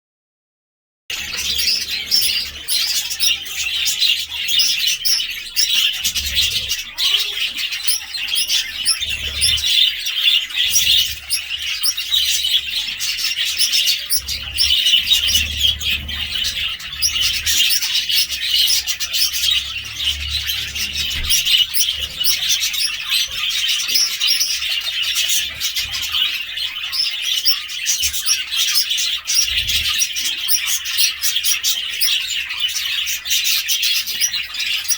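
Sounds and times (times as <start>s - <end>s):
budgerigars chirping and warbling: 1.1s - 34.9s.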